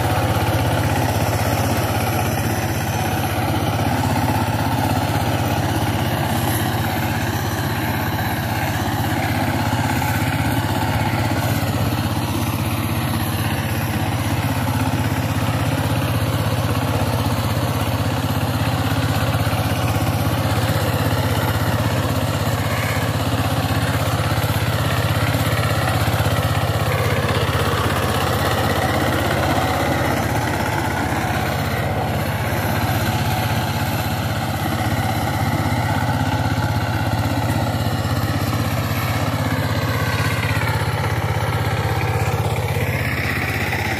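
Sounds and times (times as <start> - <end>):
diesel tiller engine running: 0.0 - 43.9.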